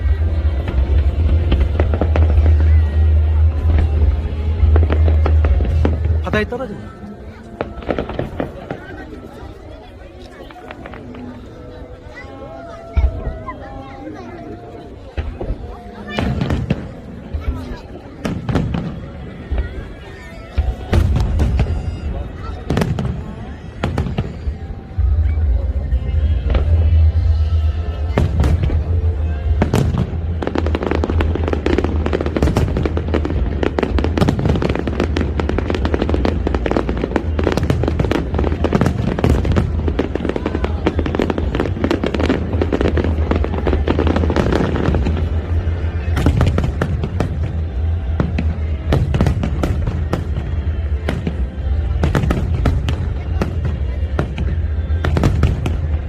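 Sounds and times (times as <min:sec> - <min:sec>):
fireworks bursting: 0:00.0 - 0:12.2, 0:14.8 - 0:56.0
music: 0:00.0 - 0:56.0.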